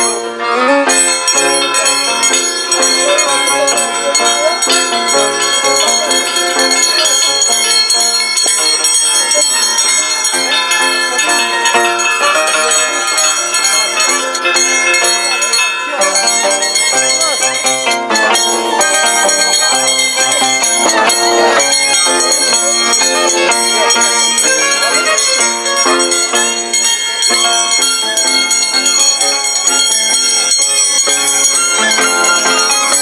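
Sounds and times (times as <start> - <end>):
violin playing: 0.0 - 28.1
harp playing: 0.0 - 33.0.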